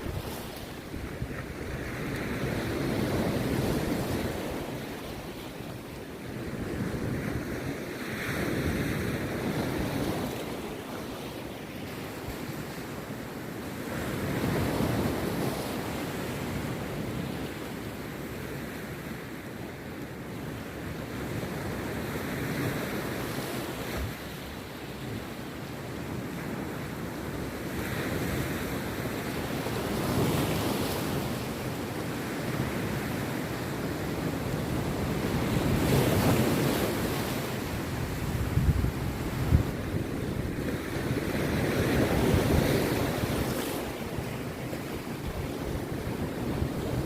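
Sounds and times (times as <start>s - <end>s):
surf crashing on beach: 0.0s - 47.0s.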